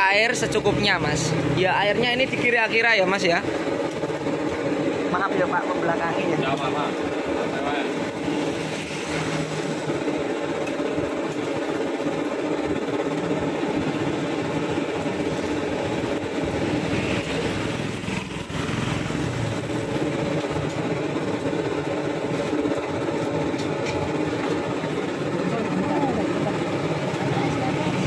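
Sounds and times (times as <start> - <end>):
engine-like drone: 0.0 - 28.0.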